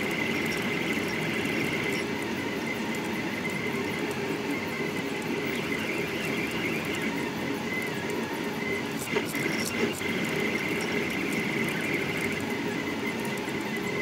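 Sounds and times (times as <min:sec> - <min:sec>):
mechanical hum: 0:00.0 - 0:14.0
stepper motors whining: 0:00.0 - 0:14.0.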